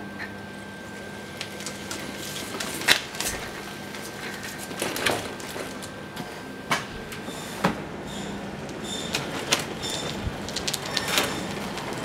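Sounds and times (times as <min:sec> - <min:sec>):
faint steady motor hum: 0:00.0 - 0:12.0.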